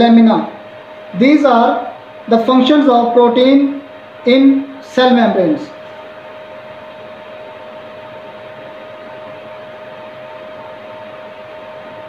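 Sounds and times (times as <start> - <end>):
fan-like hiss: 0.0 - 12.0
mid-pitched hum: 0.0 - 12.0.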